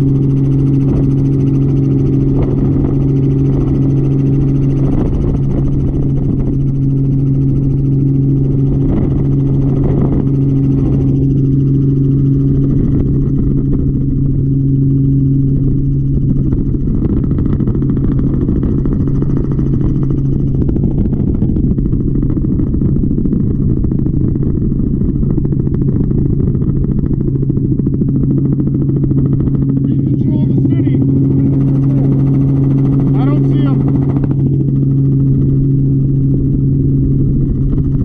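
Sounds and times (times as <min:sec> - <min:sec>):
low mechanical drone: 0:00.0 - 0:38.0.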